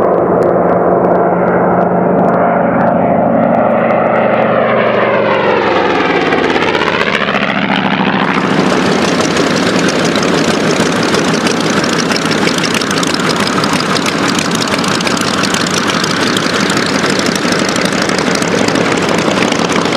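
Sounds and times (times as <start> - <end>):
radial aircraft engine running: 0.0 - 19.9.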